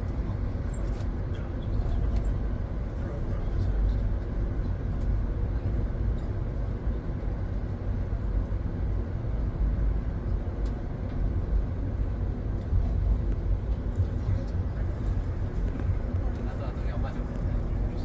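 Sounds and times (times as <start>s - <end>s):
train car rumbling in motion: 0.0s - 18.0s.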